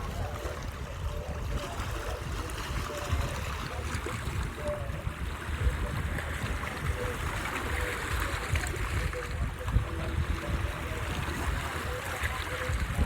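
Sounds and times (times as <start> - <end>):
sea water lapping at shore: 0.0 - 13.0
wind rumbling on microphone: 0.0 - 13.0.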